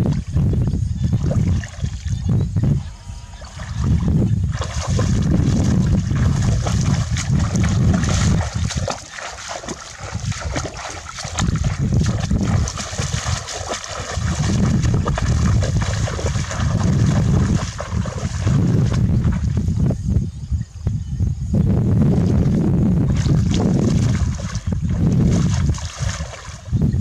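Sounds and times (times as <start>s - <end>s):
water splashing and sloshing: 1.2s - 2.2s, 3.3s - 19.7s, 22.4s - 27.0s
low rumble: 2.2s - 25.9s.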